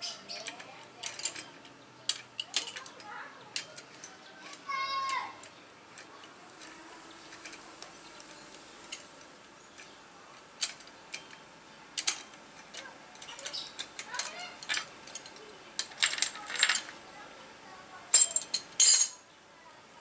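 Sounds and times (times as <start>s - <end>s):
faint background voices: 0.0s - 11.4s, 12.1s - 20.0s.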